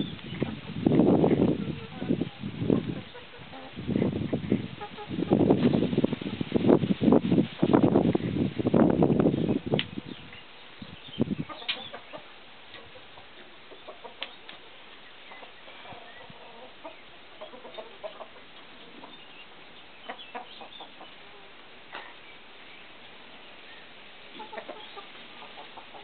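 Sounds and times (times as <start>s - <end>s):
chickens clucking: 0.0s - 6.4s, 9.4s - 26.0s.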